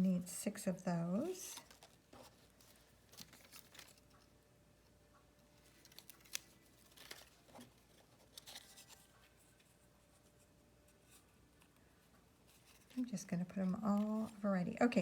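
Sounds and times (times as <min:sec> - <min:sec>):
paper rustling and clicking: 0:01.4 - 0:15.0.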